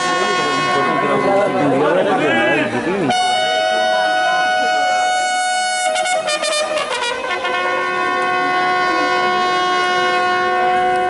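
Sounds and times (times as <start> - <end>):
bugle playing long notes: 0.0 - 2.0, 3.1 - 11.0.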